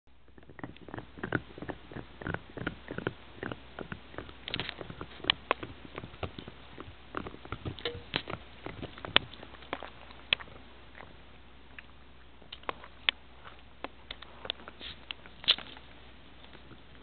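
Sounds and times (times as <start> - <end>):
dog gnawing a bone: 0.1 - 17.0.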